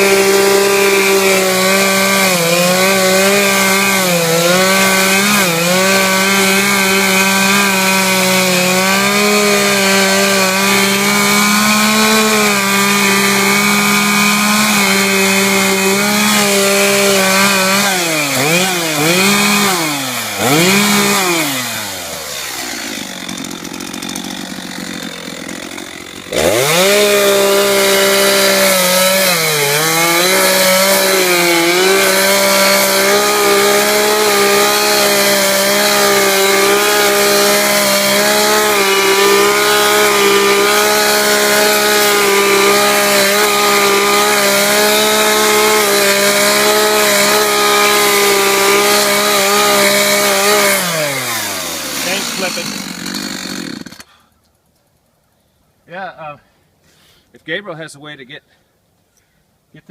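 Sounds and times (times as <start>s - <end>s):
chainsaw revving and idling: 0.0s - 54.2s.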